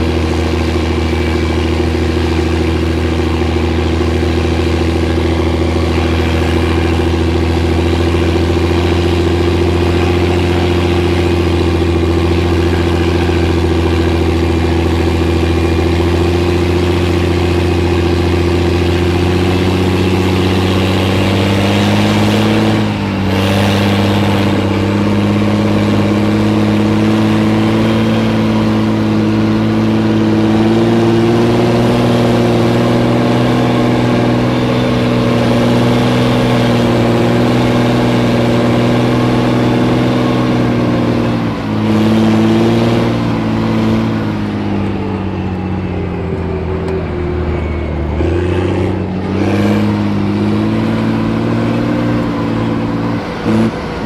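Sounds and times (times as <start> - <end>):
armoured vehicle engine running: 0.0 - 54.0.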